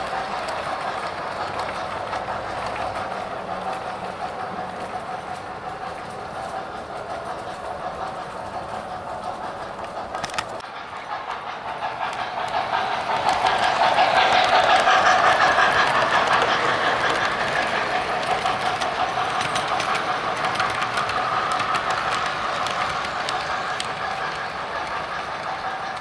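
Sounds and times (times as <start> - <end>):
model train wheels clattering: 0.0 - 26.0.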